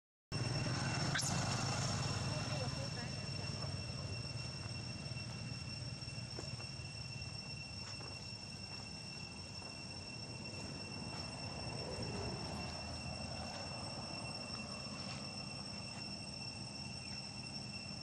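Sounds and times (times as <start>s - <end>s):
insects chirring: 0.4s - 18.0s.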